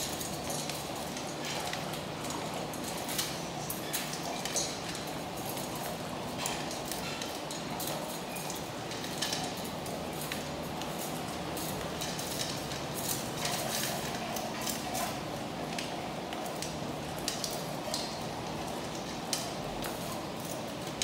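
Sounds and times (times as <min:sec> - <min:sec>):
metal bowls clinking and scraping: 0:00.0 - 0:21.0.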